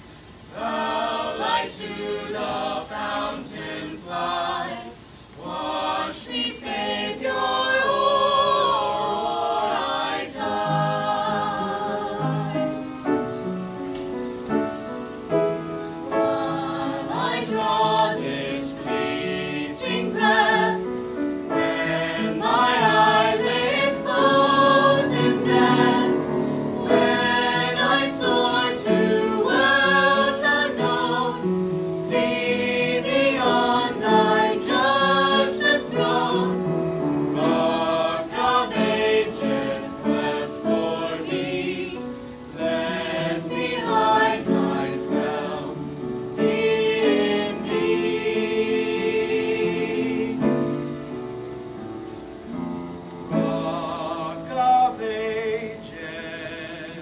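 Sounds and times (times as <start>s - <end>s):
mixed choir singing in harmony: 0.0s - 13.6s, 14.5s - 51.8s, 52.6s - 57.0s.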